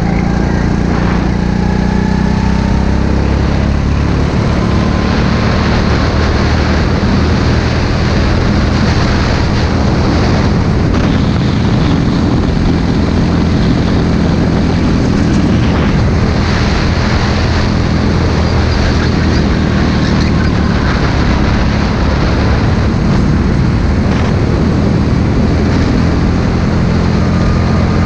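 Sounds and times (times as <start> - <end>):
go-kart engine droning: 0.0 - 28.0.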